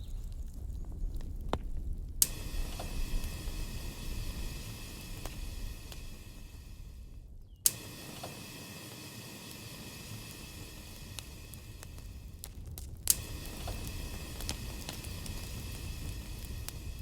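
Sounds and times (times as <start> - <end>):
campfire rumble and hiss: 0.0 - 17.0
fire crackles: 0.0 - 17.0.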